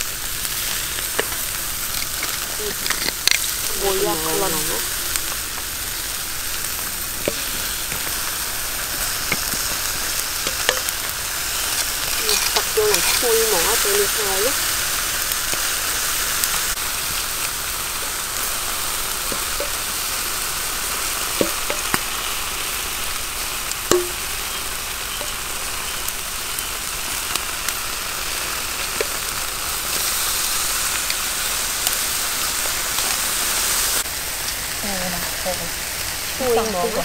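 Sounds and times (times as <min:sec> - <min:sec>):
meat sizzling on a grill: 0:00.0 - 0:37.0.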